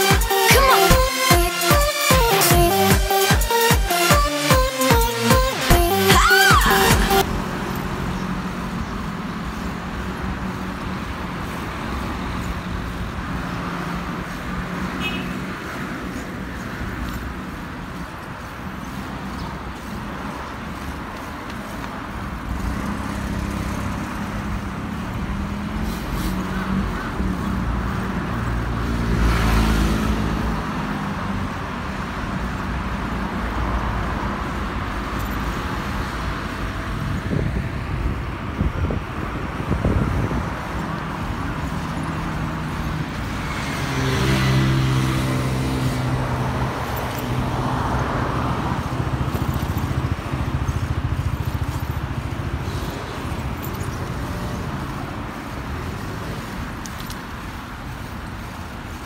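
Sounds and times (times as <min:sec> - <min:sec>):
cars passing by: 0:00.0 - 0:59.0.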